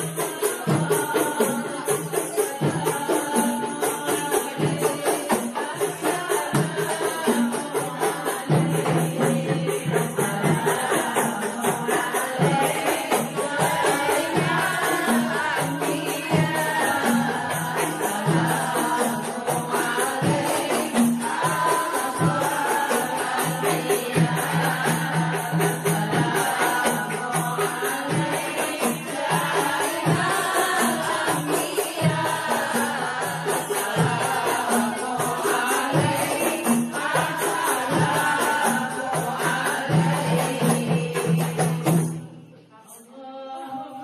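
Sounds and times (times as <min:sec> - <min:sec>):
tambourine percussion: 0:00.0 - 0:43.2
group chanting devotional song: 0:00.0 - 0:44.0.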